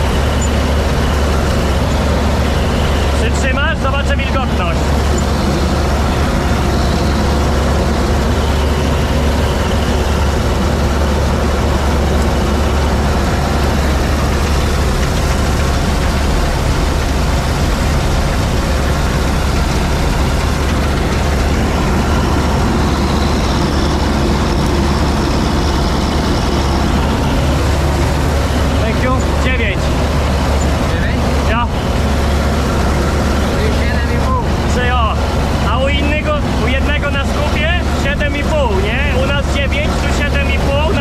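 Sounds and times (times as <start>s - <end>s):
combine harvester engine drone: 0.0s - 41.0s.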